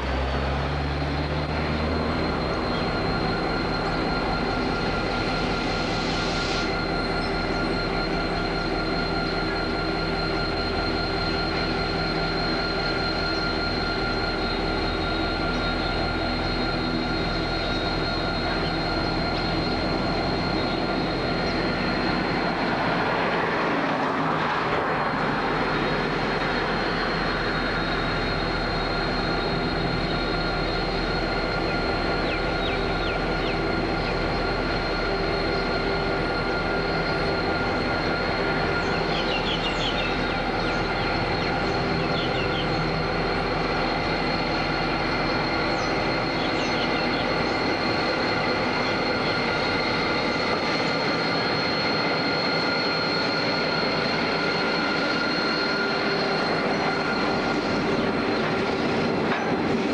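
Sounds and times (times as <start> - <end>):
diesel locomotive engine: 0.0 - 59.9
train wheel squeals: 0.0 - 59.9.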